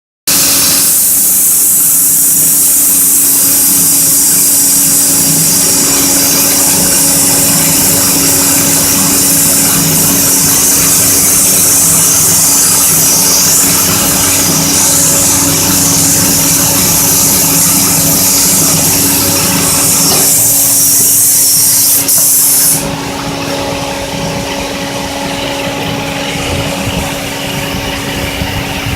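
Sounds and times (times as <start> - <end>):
sanding machine hissing: 0.3 - 28.9.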